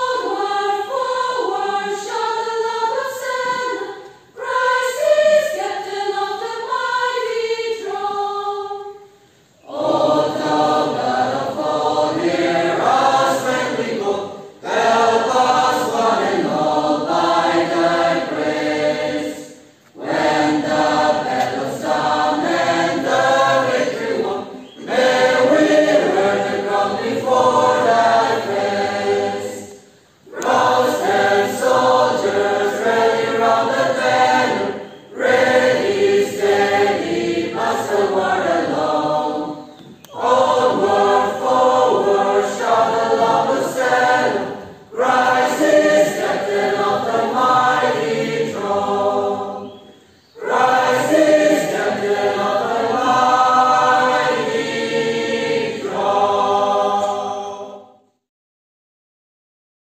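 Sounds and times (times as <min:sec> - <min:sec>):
congregation singing a hymn: 0:00.0 - 0:58.1.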